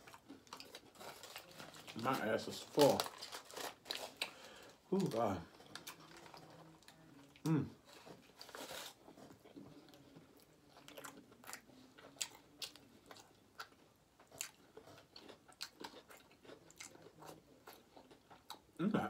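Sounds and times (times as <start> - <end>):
close-up chewing: 0.0 - 18.8.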